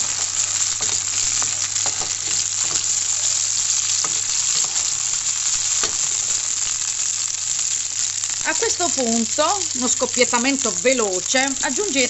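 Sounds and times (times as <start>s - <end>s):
oil popping and crackling: 0.0s - 12.0s
tomatoes sizzling in oil: 0.0s - 12.0s.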